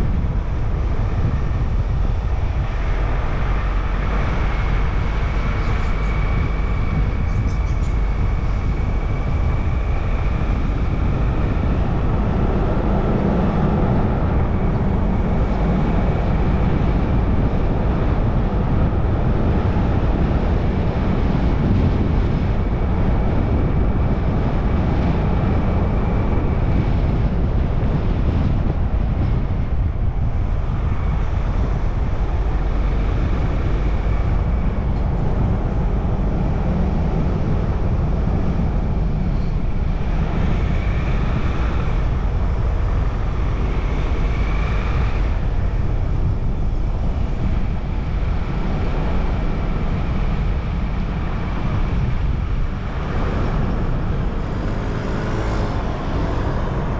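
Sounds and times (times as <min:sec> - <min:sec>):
car road and wind rumble: 0:00.0 - 0:56.9.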